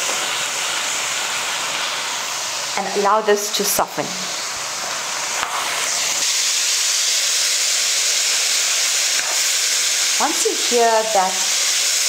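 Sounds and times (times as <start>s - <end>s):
stir-fry sizzling in a pan: 0.0s - 12.0s.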